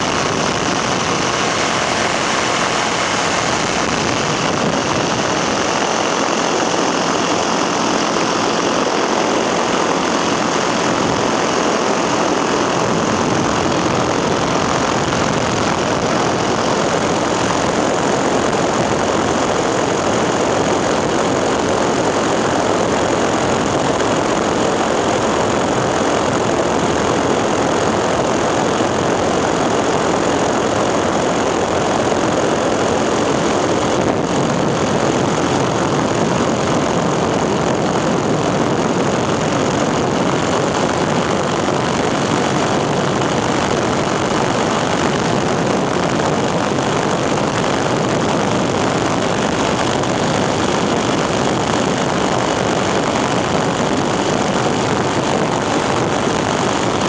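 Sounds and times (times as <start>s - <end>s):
engine and propeller drone: 0.0s - 57.0s.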